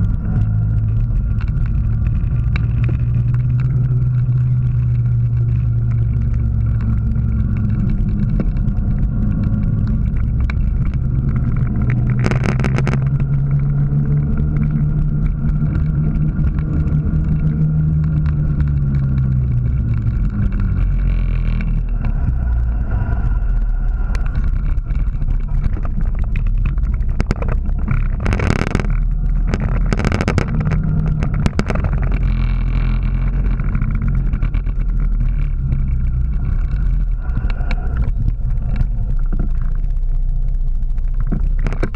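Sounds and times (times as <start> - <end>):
vehicle engine running: 0.0 - 41.9
wind on microphone: 0.0 - 41.9.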